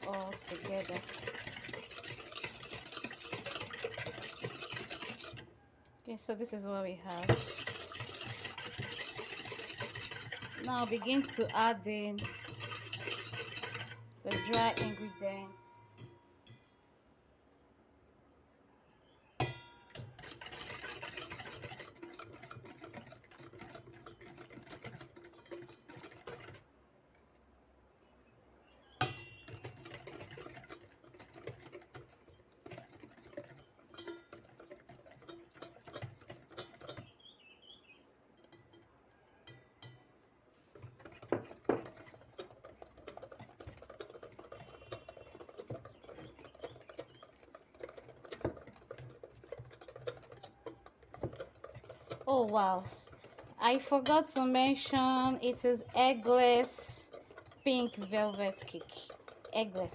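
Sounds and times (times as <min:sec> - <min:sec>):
spatula scraping batter in bowl: 0:00.0 - 0:16.7, 0:19.9 - 0:26.7, 0:29.0 - 0:40.0, 0:40.6 - 0:59.9.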